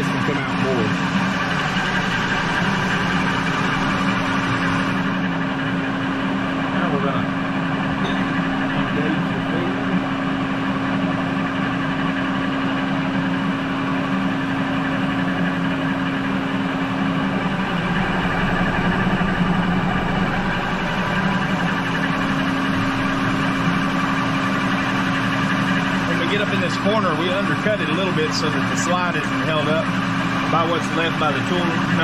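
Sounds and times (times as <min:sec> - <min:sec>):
lathe humming: 0:00.0 - 0:32.0.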